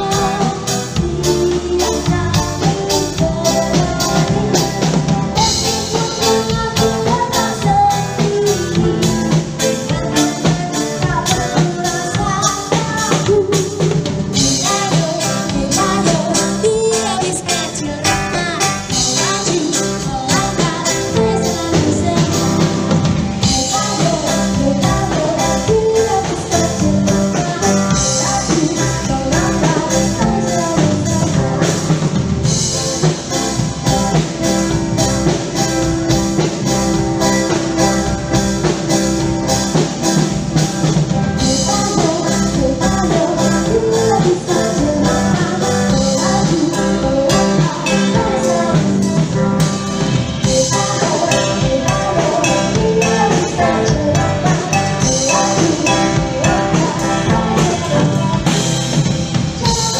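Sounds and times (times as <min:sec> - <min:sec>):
steady drum beat: 0:00.0 - 0:59.9
upbeat song with singing: 0:00.0 - 0:59.9.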